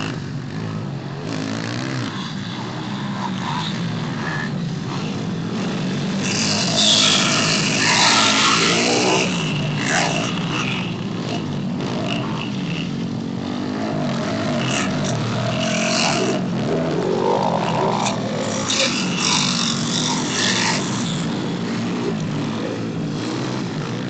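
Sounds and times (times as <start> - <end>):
pit bike engines revving: 0.0 - 24.0.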